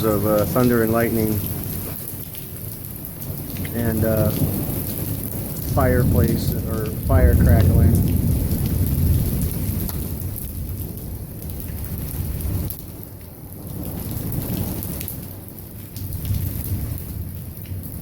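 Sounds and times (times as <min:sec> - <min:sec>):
thunder rumbling: 0:00.0 - 0:18.0
torrential rain: 0:00.0 - 0:18.0.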